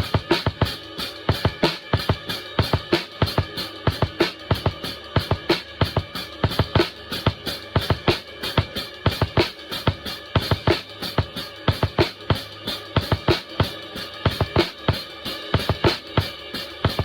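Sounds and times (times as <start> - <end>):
ringing cymbals: 0.0 - 17.0.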